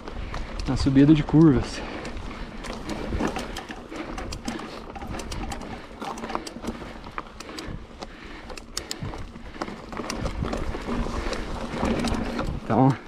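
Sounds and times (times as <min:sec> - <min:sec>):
bike rattling over ground: 0:00.0 - 0:13.0.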